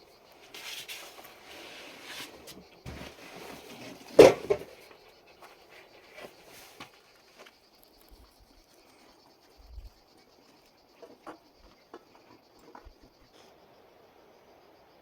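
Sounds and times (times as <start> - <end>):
rustling of things handled: 0.3 - 13.2.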